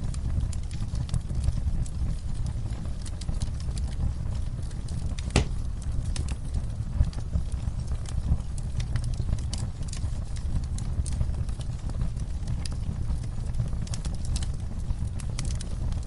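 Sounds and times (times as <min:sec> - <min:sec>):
fire burning rumble: 0:00.0 - 0:16.0
fire popping and snapping: 0:00.0 - 0:16.0.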